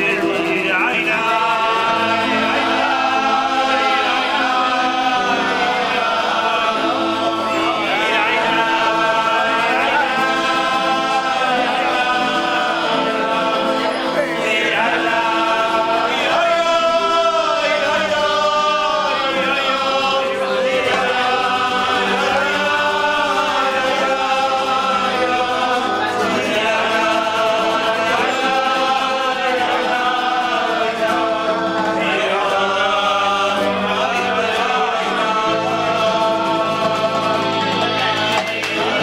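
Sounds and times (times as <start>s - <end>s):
acoustic guitar: 0.0s - 39.0s
electric keyboard: 0.0s - 39.0s
male voices singing together: 0.0s - 39.0s.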